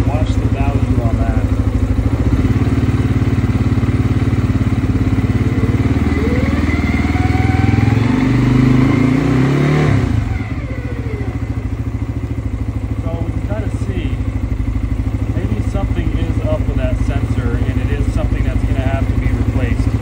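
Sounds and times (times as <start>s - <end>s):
atv engine idling and revving: 0.0s - 20.0s.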